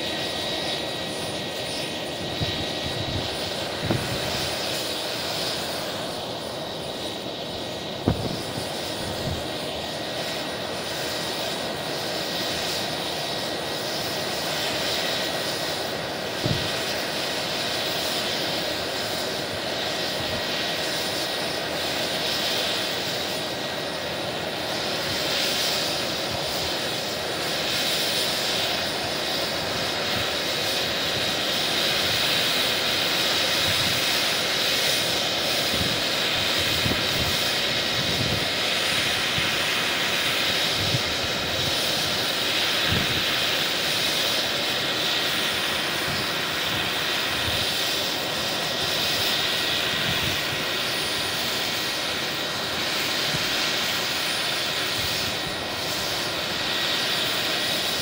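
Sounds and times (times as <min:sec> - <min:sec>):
helicopter rotor noise: 0:00.0 - 0:58.0
high turbine whine: 0:00.0 - 0:58.0.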